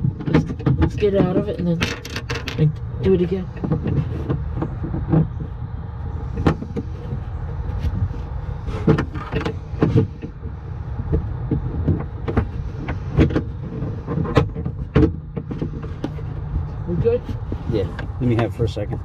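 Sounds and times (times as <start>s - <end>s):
metal part knocking and clunking: 0.0s - 5.6s, 6.3s - 19.0s
steady low rumble: 0.0s - 19.0s.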